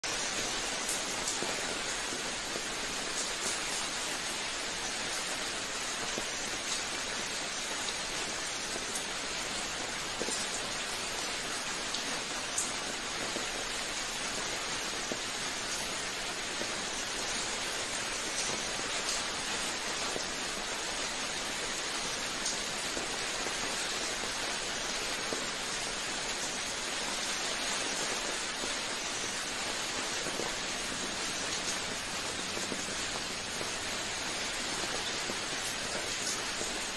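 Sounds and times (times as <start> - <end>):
steady rain hiss: 0.0 - 36.9.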